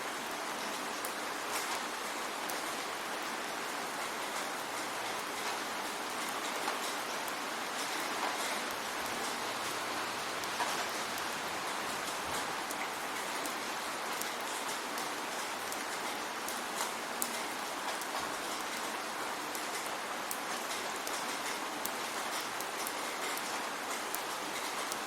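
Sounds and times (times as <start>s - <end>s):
steady rain hiss: 0.0s - 25.0s
raindrops ticking on hard surface: 0.2s - 25.0s.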